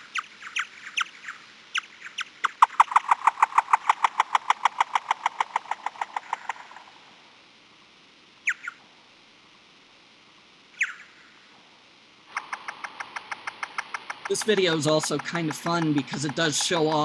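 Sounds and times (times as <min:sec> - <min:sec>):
bat echolocation chirps: 0:00.0 - 0:07.3, 0:08.4 - 0:09.0, 0:10.3 - 0:17.0.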